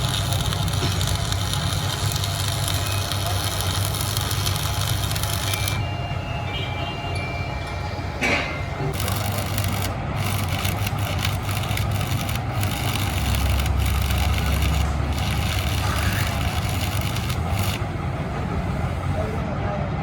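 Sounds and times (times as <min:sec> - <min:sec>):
machine humming: 0:00.0 - 0:19.4.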